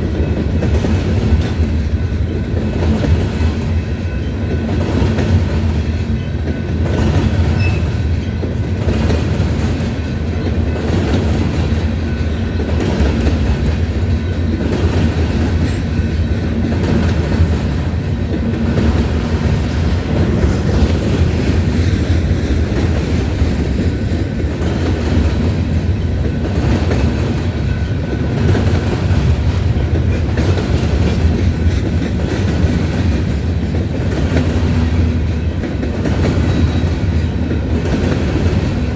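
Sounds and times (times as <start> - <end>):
wheels clicking over rail joints: 0.0 - 38.9.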